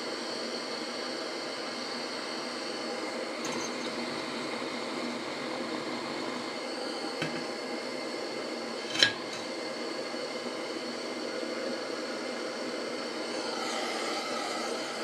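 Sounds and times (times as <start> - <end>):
gas stove flame hissing: 0.0 - 15.0.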